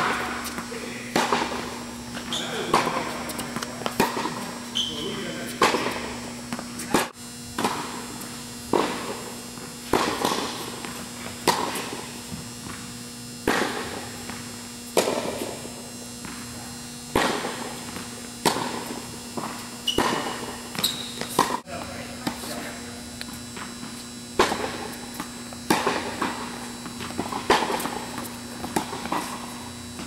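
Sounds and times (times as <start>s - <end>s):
tennis ball hit with rackets: 0.0s - 12.8s, 13.4s - 22.8s, 24.4s - 30.0s
steady low hum: 0.0s - 30.0s.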